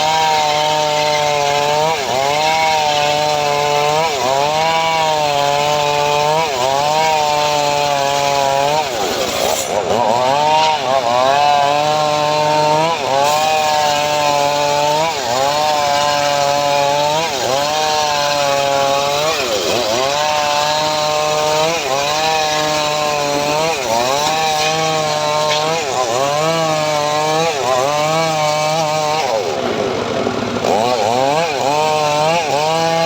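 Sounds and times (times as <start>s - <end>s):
chainsaw engine cutting wood: 0.0s - 33.0s.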